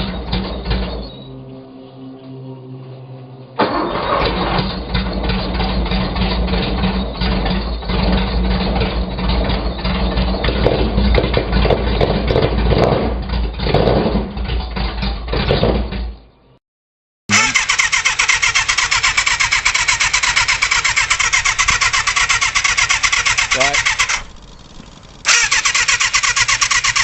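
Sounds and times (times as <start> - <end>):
large engine running: 0.0 - 16.5, 17.3 - 27.0.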